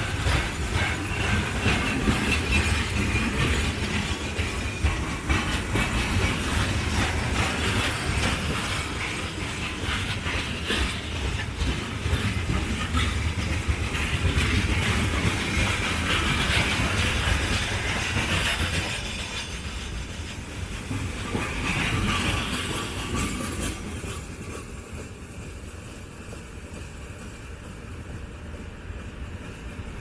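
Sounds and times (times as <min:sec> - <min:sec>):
freight train wheels clattering: 0:00.0 - 0:30.0
train low rumble: 0:00.0 - 0:30.0.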